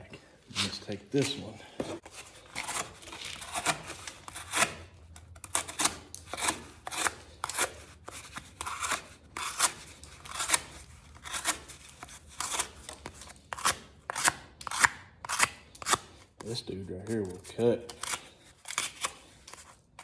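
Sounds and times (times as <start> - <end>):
knife slicing cardboard: 0.6 - 16.2, 17.0 - 20.0.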